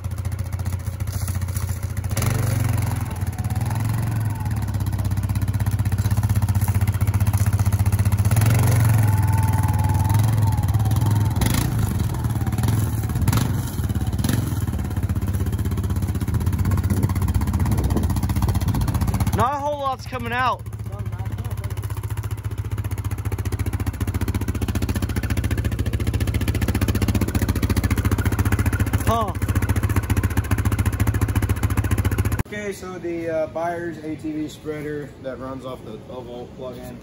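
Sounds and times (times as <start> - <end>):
quad bike engine running: 0.0 - 32.5.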